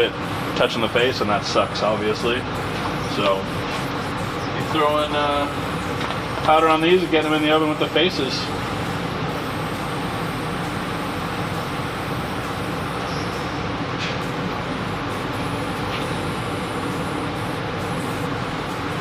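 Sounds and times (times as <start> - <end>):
extraction fan rushing air: 0.0 - 19.0.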